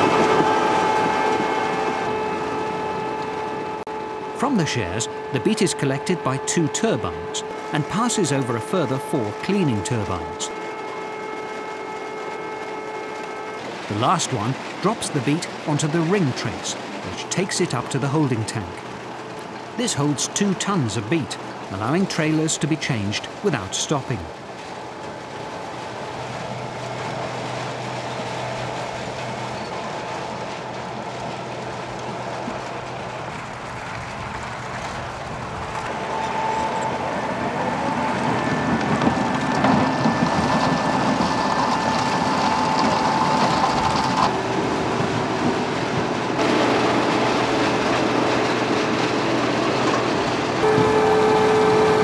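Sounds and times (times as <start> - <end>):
harvester engine running: 0.0 - 52.0
machinery rattle and clatter: 0.0 - 52.0.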